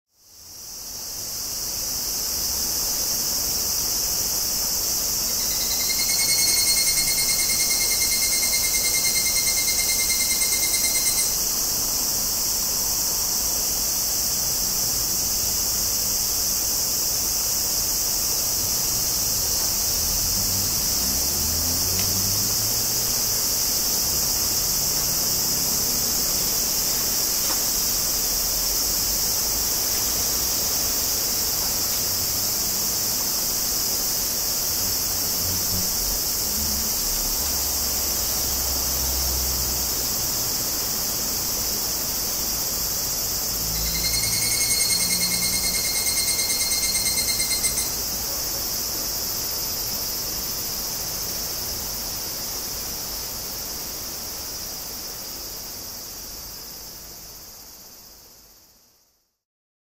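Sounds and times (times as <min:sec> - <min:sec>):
cicada chorus hissing: 0:00.1 - 0:59.4
cicada rapid pulsing call: 0:00.2 - 0:59.2.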